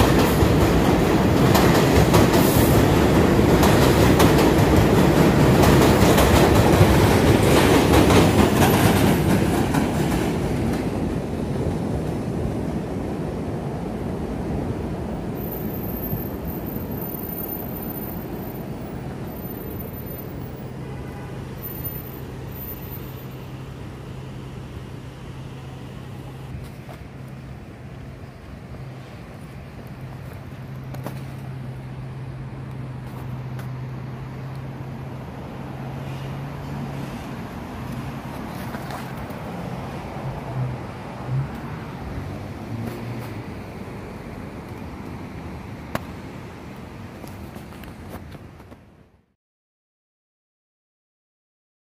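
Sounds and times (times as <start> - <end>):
city background rumble: 0.0 - 49.3
street traffic hum: 0.0 - 49.3.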